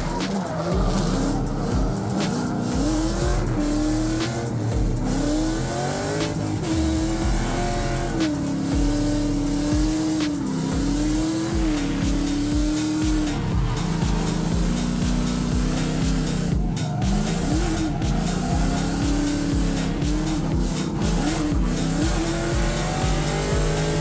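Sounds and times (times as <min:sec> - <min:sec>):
car engine revving: 0:00.0 - 0:24.0
tyre squeal: 0:00.0 - 0:24.0.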